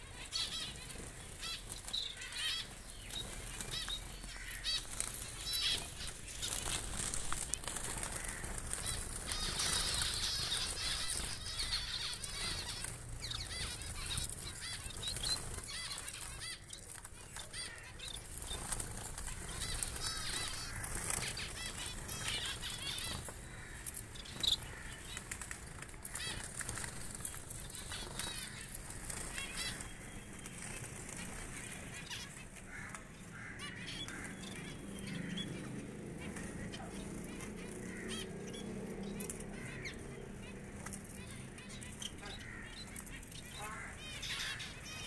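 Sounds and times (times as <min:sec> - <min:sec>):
wings fluttering: 0:00.0 - 0:45.0.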